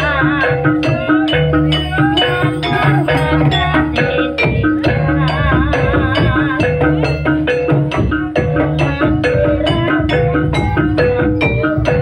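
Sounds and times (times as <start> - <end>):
drums at fast beat: 0.0 - 12.0
metallophones ringing melody: 0.0 - 12.0.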